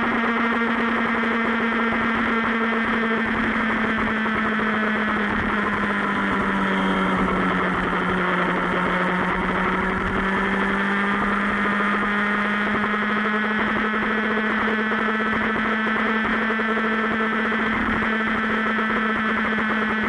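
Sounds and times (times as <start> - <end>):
motorbike engine cruising: 0.0 - 20.0.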